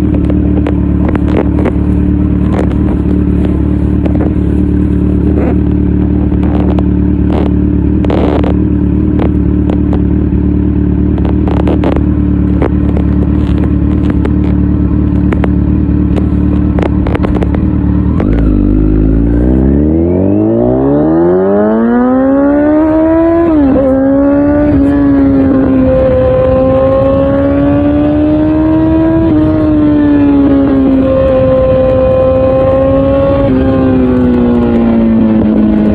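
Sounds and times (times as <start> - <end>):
motorcycle engine: 0.0 - 35.9.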